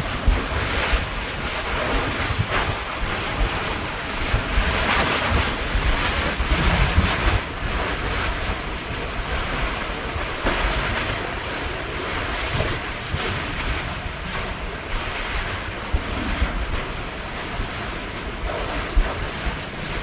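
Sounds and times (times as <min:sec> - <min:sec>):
ocean surf washing ashore: 0:00.0 - 0:20.0
wind buffeting microphone: 0:00.0 - 0:20.0.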